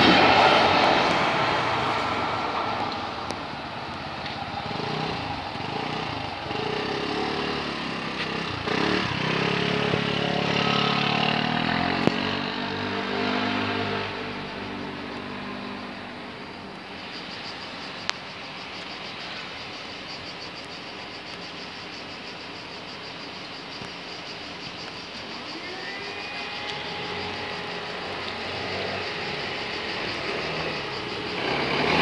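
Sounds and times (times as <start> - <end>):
scooter engines accelerating: 0.0 - 17.8, 21.0 - 32.0
road traffic: 0.0 - 32.0.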